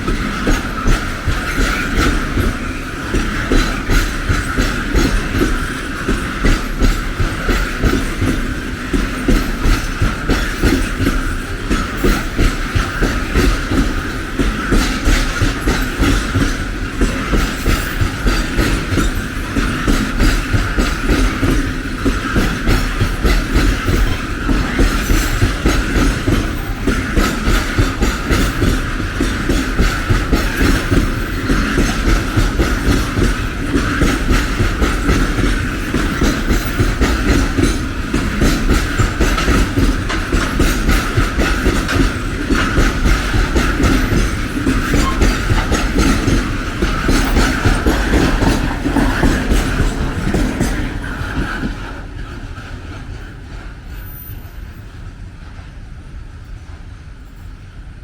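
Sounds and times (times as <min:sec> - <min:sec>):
wheels ringing on rails: 0:00.0 - 0:55.8
train wheels clicking over rail joints: 0:00.0 - 0:57.6
train rumble: 0:00.0 - 0:58.0.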